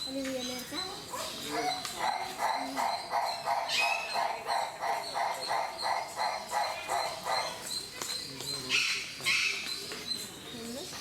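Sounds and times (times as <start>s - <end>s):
bird harsh barking calls: 0.0s - 10.0s.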